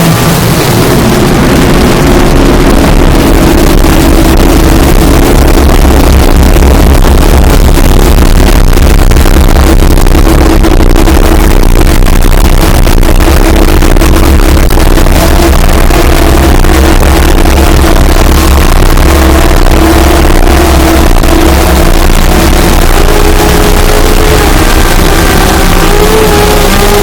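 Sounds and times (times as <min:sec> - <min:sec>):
distorted chainsaw engine noise: 0:00.0 - 0:27.0.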